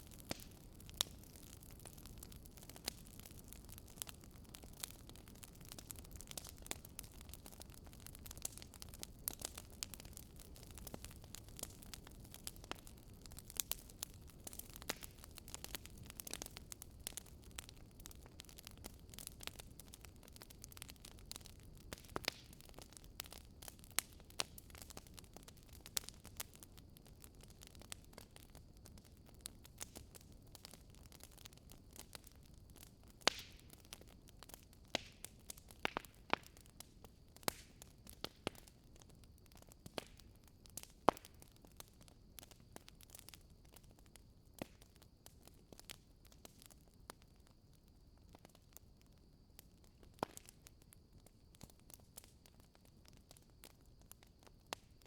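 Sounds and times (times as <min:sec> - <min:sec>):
crackles and pops of burning wood: 0:00.0 - 0:55.0
low rumble of flames: 0:00.0 - 0:55.0.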